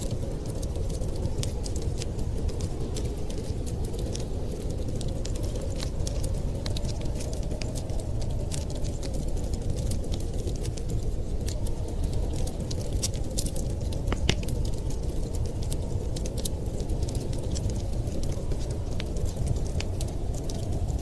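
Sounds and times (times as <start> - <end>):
fireplace crackling and popping: 0.0 - 21.0
low fire rumble: 0.0 - 21.0.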